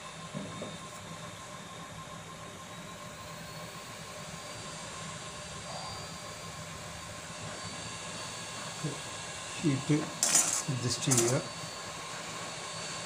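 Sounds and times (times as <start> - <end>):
hot air fan blowing with whine: 0.0 - 13.0.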